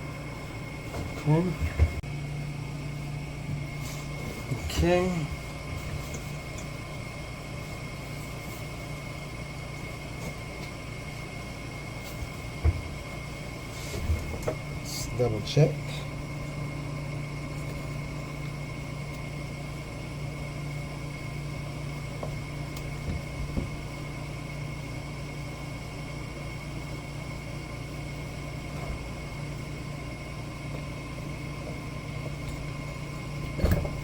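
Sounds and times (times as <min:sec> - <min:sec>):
mechanical hum with high whine: 0:00.0 - 0:34.0.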